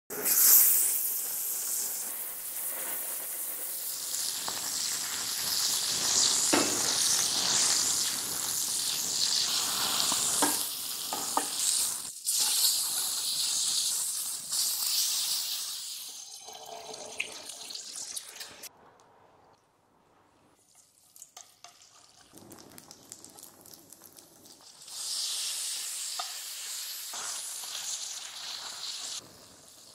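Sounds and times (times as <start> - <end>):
meat sizzling in hot oil: 0.1 - 18.7, 20.7 - 29.9
egg frying in oil: 0.3 - 18.7, 20.6 - 29.9.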